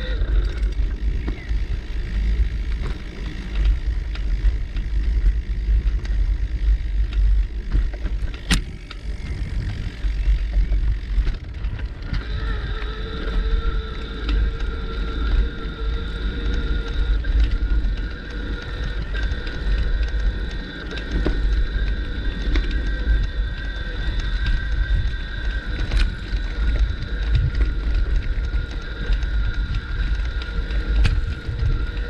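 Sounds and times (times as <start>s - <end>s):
bicycle riding rumble: 0.0s - 32.0s
steady high whine: 0.0s - 32.0s.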